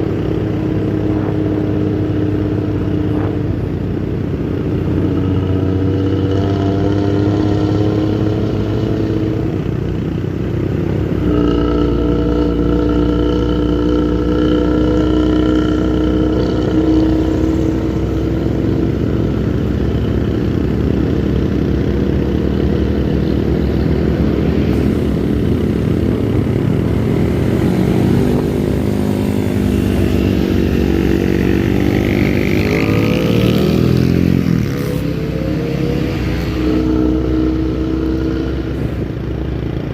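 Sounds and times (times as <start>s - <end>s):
bus engine with loud exhaust: 0.0s - 39.9s.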